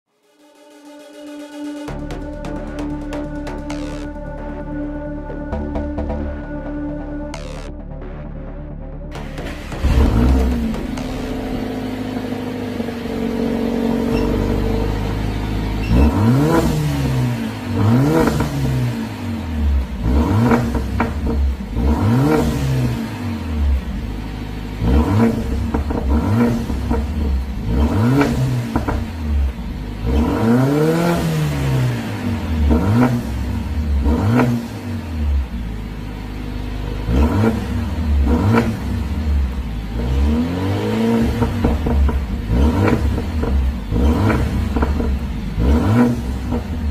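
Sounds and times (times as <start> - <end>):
car engine idling and revving: 1.6 - 46.9
exhaust crackles: 9.1 - 46.9.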